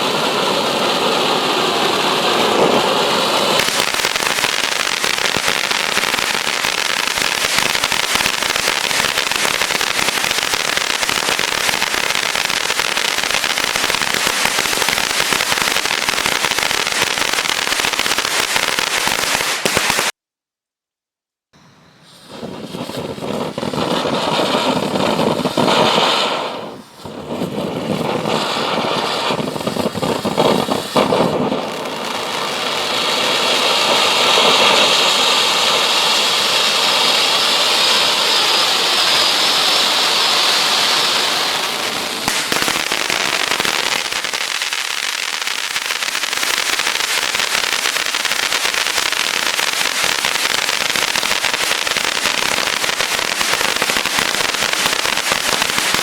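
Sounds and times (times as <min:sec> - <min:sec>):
fountain fireworks hissing: 0:00.0 - 0:20.1, 0:21.6 - 0:56.0
fireworks crackling: 0:00.0 - 0:20.2, 0:21.6 - 0:56.0.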